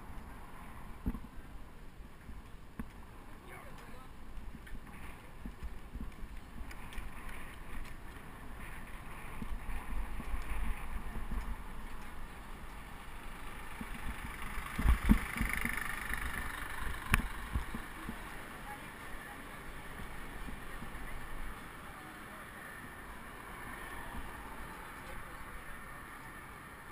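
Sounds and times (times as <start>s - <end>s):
bicycle ride rumble: 0.0s - 26.9s
street traffic: 0.0s - 26.9s.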